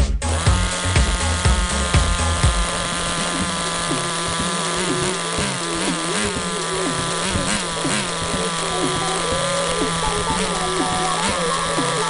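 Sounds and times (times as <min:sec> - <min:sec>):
nitro engine idling with buzz: 0:00.0 - 0:12.0.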